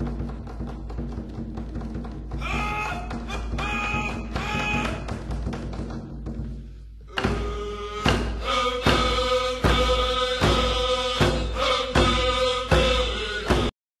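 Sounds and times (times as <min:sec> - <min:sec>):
drum struck steadily: 0:00.0 - 0:06.5, 0:07.1 - 0:13.7.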